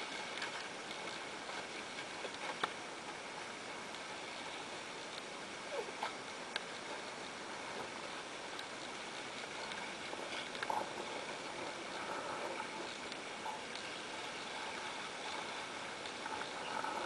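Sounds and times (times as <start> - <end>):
water rushing along boat hull: 0.0 - 17.0.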